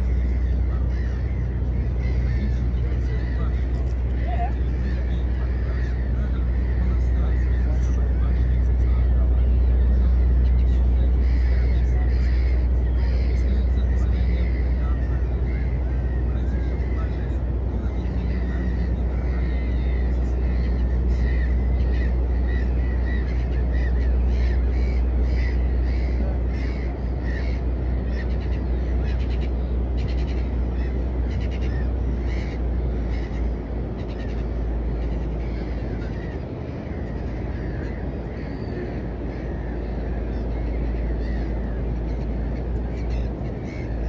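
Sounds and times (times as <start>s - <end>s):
birds calling: 0.0s - 44.0s
steady low rumble: 0.0s - 44.0s.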